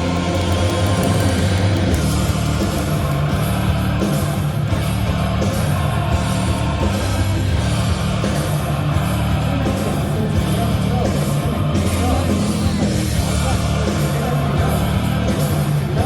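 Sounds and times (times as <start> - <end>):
rock music over loudspeakers: 0.0 - 16.0.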